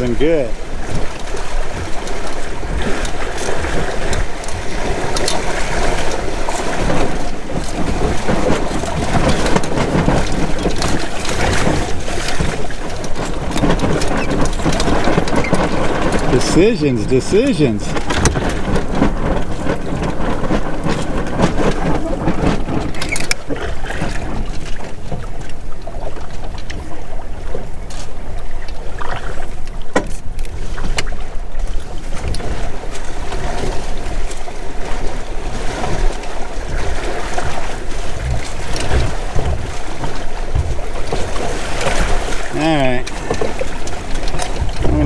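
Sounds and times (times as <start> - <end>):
water splashing along a hull: 0.0 - 45.0
wind rumbling on microphone: 0.0 - 45.0.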